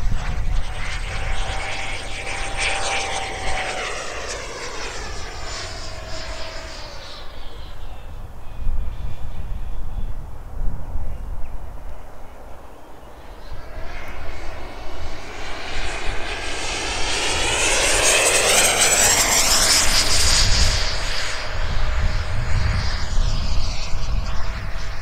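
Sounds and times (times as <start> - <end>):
rc jet high whine: 0.0 - 10.6, 11.7 - 25.0.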